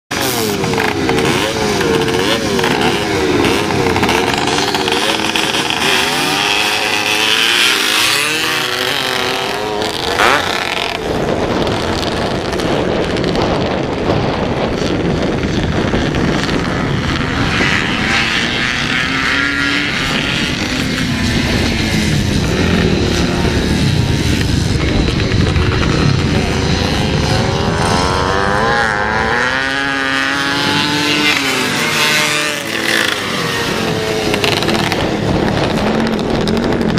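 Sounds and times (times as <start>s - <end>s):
motorcycles revving and accelerating: 0.1s - 36.9s.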